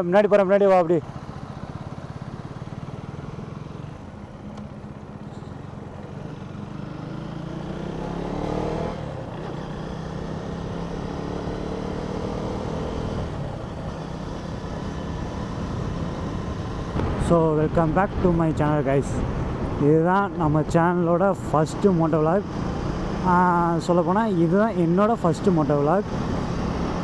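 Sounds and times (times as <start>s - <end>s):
motorcycle engine accelerating: 1.0s - 27.0s.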